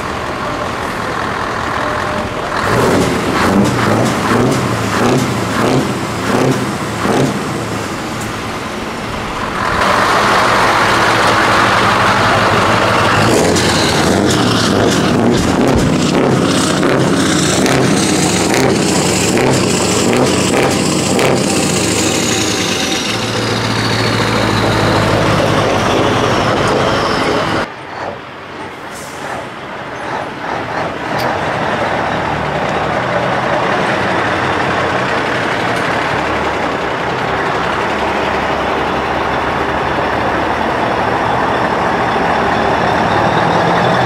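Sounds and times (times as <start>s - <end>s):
truck approaching: 0.0s - 44.0s
truck engine running loud: 0.0s - 44.0s.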